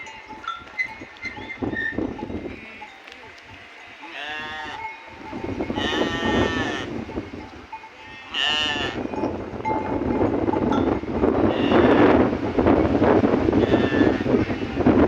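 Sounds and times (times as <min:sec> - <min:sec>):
sheep and goats bleating: 0:00.0 - 0:10.0, 0:11.4 - 0:12.2, 0:13.5 - 0:15.0.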